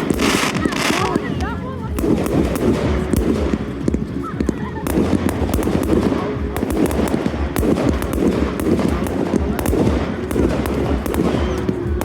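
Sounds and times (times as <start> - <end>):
continuous rumble: 0.0 - 12.0
fireworks bursting and crackling: 0.0 - 12.0.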